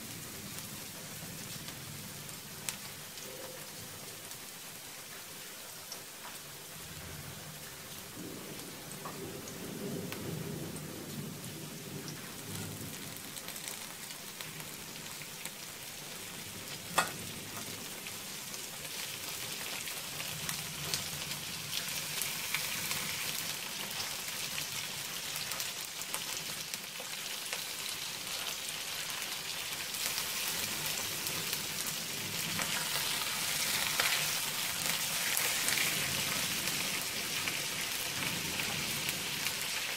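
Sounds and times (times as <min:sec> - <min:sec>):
food sizzling in hot oil: 0:00.0 - 0:10.2, 0:10.8 - 0:39.9.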